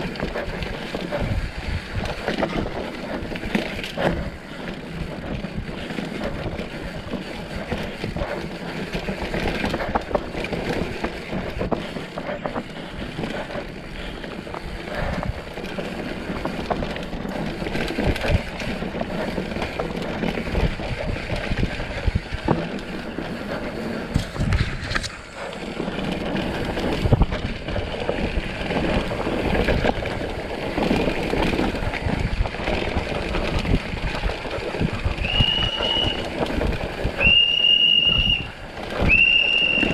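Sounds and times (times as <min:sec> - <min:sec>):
bike knocking and rattling: 0:00.0 - 0:39.9
tyres rolling over dirt and stones: 0:00.0 - 0:39.9.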